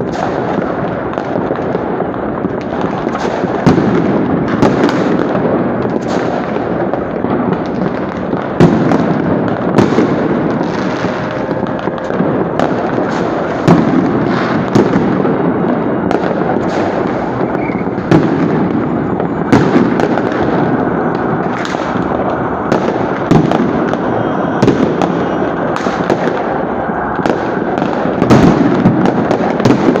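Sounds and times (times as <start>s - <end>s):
fireworks bangs and crackles: 0.0s - 30.0s
loud single firework bangs: 0.0s - 30.0s.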